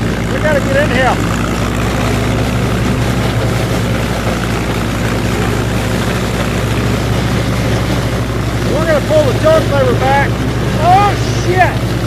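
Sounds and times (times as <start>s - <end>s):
flail chopper grinding stalks: 0.0s - 12.0s
tractor engine under load: 0.0s - 12.0s.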